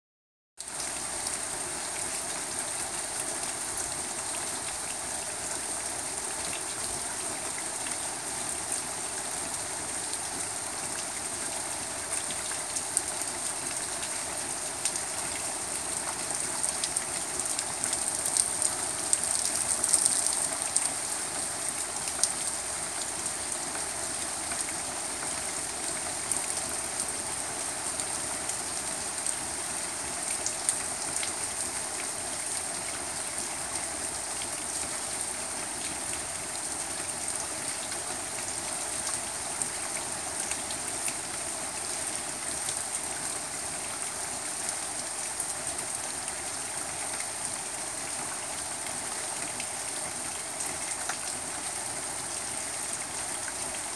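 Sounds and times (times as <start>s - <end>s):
heavy rain on lawn and concrete: 0.6s - 53.9s.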